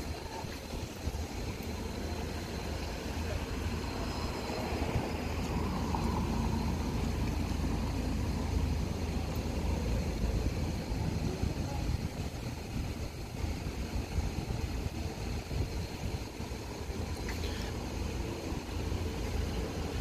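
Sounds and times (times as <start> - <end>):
low vehicle rumble: 0.0 - 20.0
noisy haze: 0.0 - 20.0.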